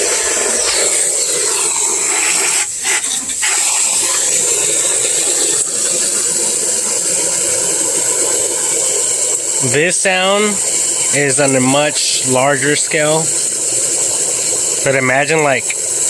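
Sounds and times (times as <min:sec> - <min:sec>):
hose water jetting into water: 0:00.0 - 0:16.0.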